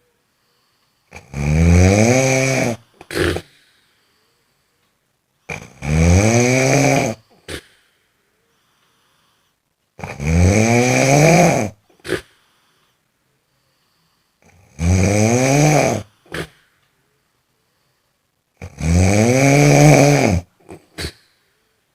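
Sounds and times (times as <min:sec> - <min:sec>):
person snoring: 0:00.4 - 0:04.6, 0:05.5 - 0:13.0, 0:13.6 - 0:16.7, 0:18.6 - 0:21.4.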